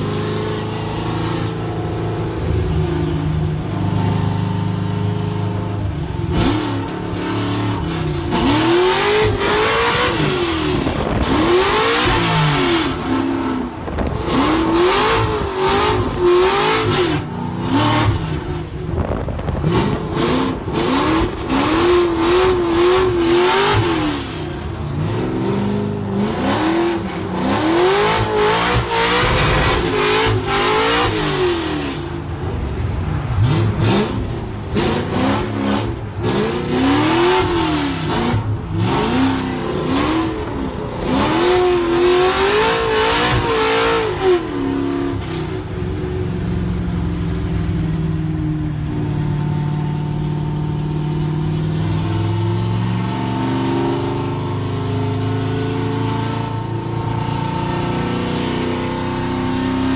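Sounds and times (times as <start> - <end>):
car engine revving and idling: 0.0 - 59.9.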